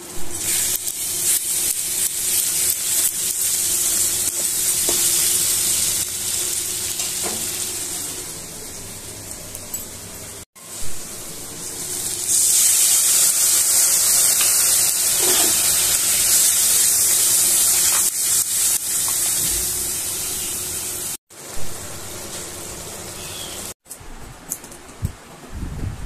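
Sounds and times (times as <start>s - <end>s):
food sizzling in a wok: 0.0s - 23.8s.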